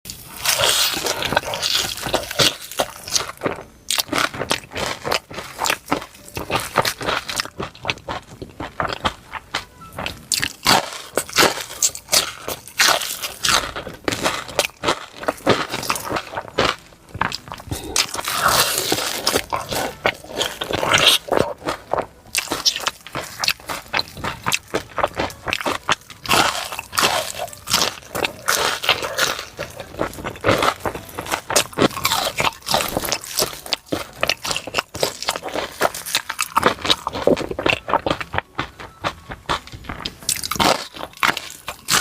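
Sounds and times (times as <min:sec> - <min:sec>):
person chewing crispy food: 0:00.1 - 0:42.0.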